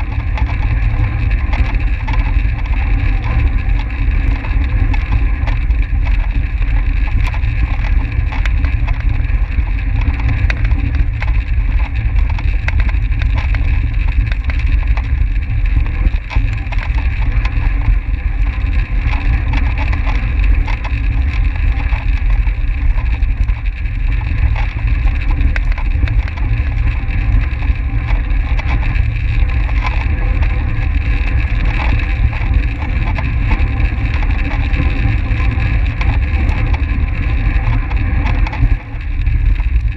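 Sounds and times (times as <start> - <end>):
small ticks: 0.0 - 39.9
wind buffeting microphone: 0.0 - 39.9.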